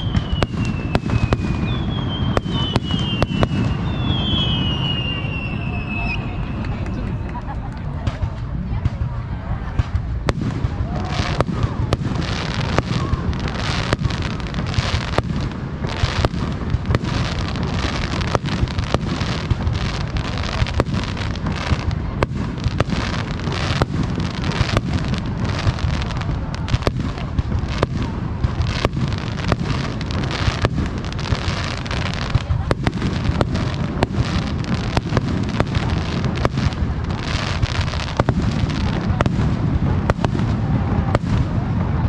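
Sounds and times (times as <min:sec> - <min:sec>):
fireworks bursting: 0:00.0 - 0:42.0
continuous low rumble: 0:05.6 - 0:42.0.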